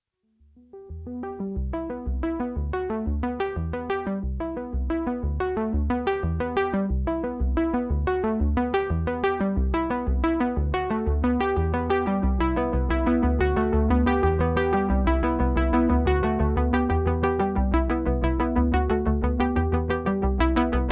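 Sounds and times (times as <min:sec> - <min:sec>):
synthesizer plucked notes: 0:00.6 - 0:20.9
pulsing bass: 0:00.8 - 0:20.9.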